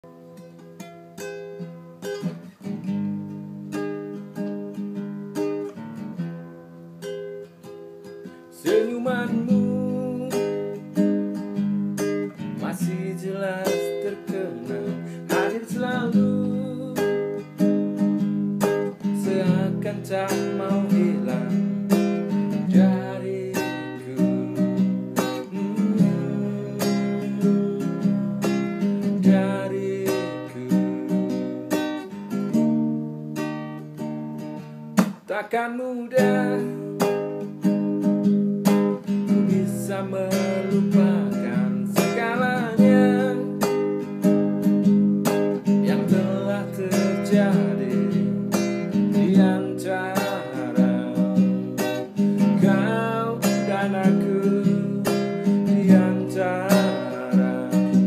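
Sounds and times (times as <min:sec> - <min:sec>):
classical guitar fingerpicked: 0:00.0 - 0:58.0.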